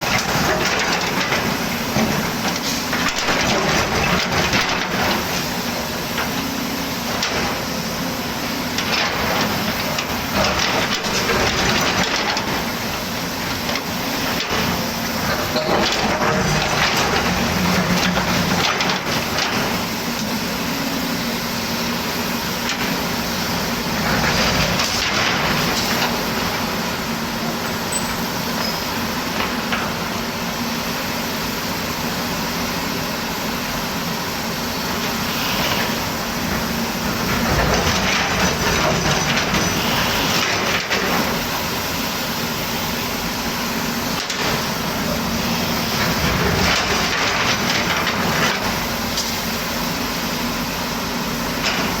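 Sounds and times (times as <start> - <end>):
excavator diesel engine running: 0.0 - 52.0
excavator working noise: 0.0 - 52.0.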